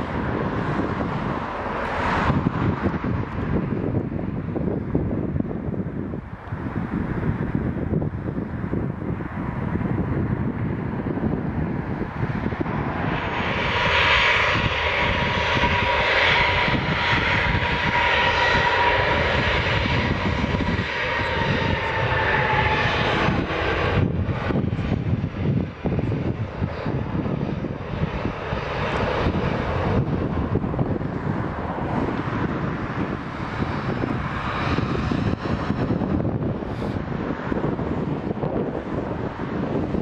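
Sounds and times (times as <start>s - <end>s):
jet engines roaring with whine: 0.0s - 40.0s.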